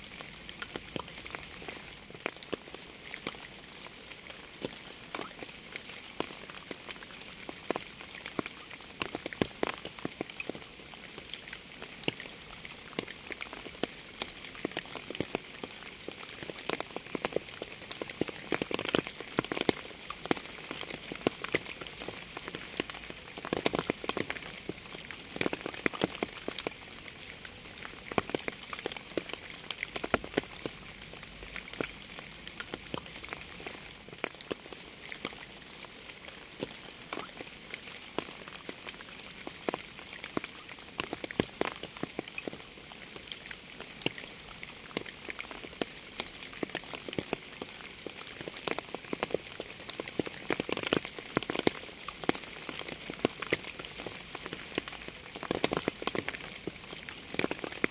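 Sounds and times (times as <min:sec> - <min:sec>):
raindrops striking close by: 0:00.0 - 0:57.9
steady rain hiss: 0:00.0 - 0:57.9.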